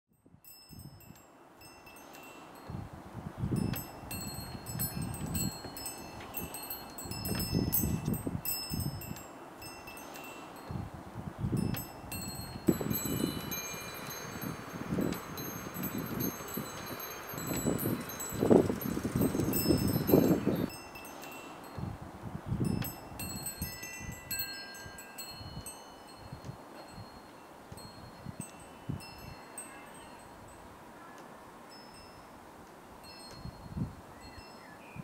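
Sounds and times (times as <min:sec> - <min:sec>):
chimes tinkling: 0:00.4 - 0:02.9, 0:03.6 - 0:10.9, 0:11.6 - 0:21.9, 0:22.6 - 0:30.6, 0:31.7 - 0:32.4, 0:33.0 - 0:34.7.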